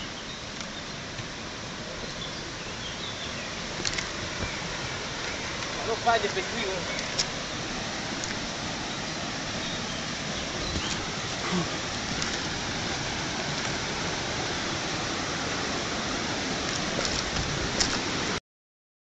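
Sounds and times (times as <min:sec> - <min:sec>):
water rushing in a stream: 0:00.0 - 0:18.4.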